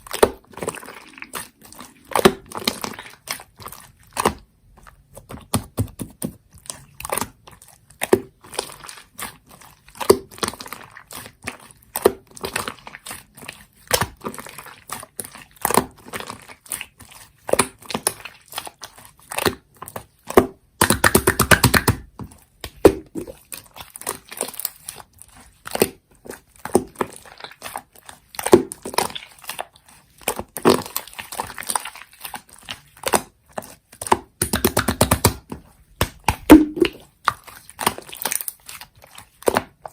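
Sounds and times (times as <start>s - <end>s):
slime squishing and popping: 0.0s - 39.9s.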